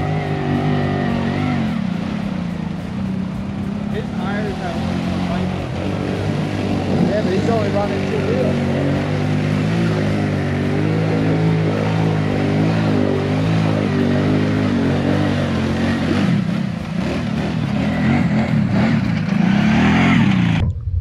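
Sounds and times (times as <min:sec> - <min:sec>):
atv engine revving: 0:00.0 - 0:20.6.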